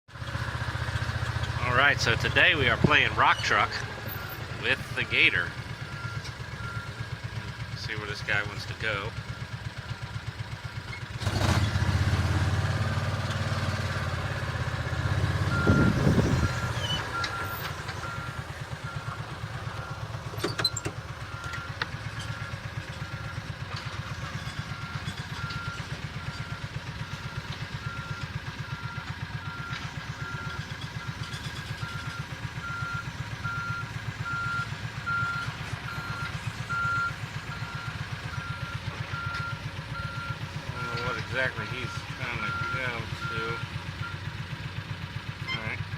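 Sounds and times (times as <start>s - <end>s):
vehicle engine idling: 0.1s - 45.9s
reversing alarm beeping: 1.3s - 7.1s, 8.2s - 10.1s, 13.3s - 44.5s.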